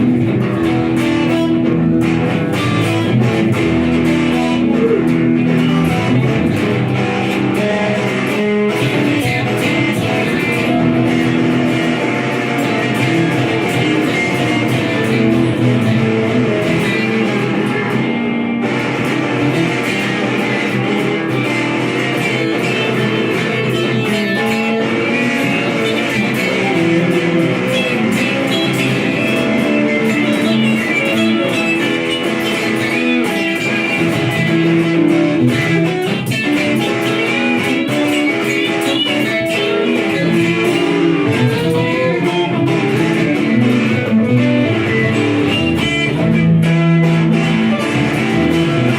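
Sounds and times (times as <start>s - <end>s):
blues-rock guitar playing: 0.0s - 48.9s.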